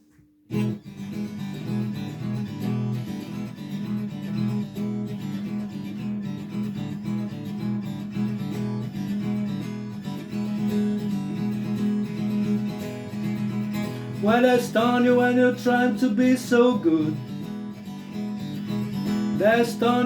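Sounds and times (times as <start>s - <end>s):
acoustic guitar strumming: 0.5s - 20.0s.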